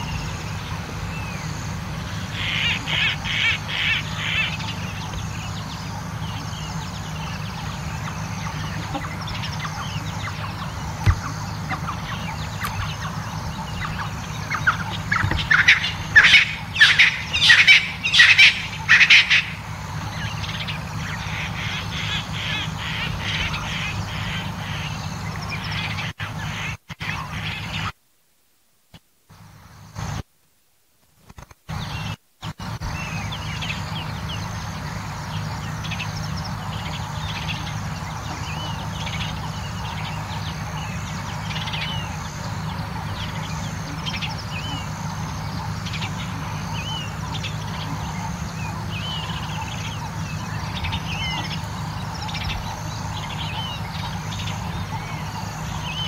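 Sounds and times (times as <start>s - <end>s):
bird chorus: 0.0s - 28.0s, 31.7s - 56.0s
steady low hum: 0.0s - 56.0s.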